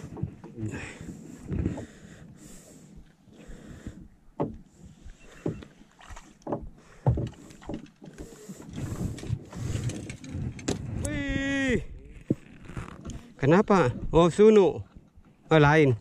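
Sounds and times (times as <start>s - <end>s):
water lapping against boat hull: 0.0s - 11.0s, 11.8s - 16.0s.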